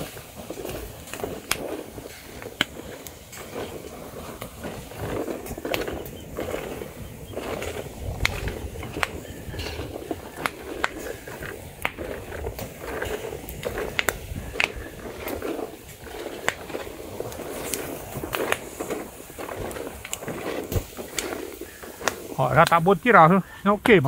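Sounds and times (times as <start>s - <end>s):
flames rushing: 0.0s - 24.0s.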